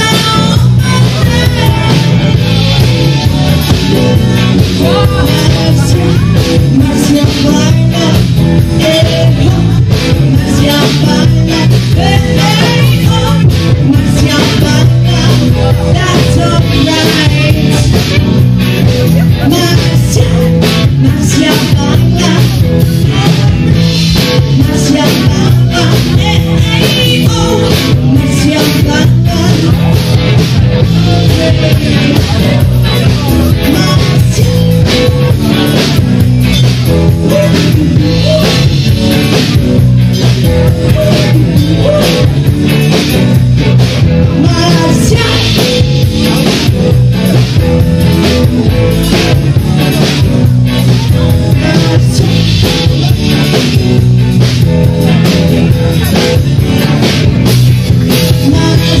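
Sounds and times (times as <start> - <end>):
drum kit beat: 0.0 - 59.0
person singing: 0.0 - 59.0
rock guitar: 0.0 - 59.0.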